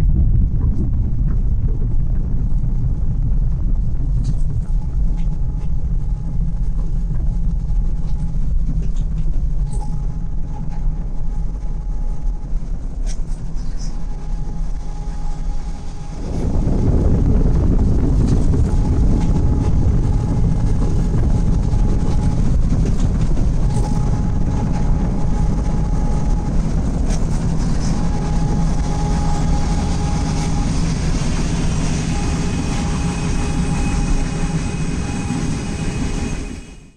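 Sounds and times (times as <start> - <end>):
car moving rumble: 0.0 - 9.9, 11.1 - 36.0
passenger train running: 4.1 - 36.9.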